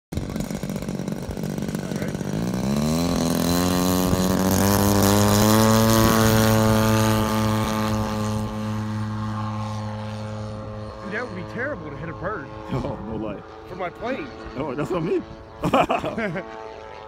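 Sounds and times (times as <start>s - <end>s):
model airplane engine and propeller: 0.1s - 17.0s.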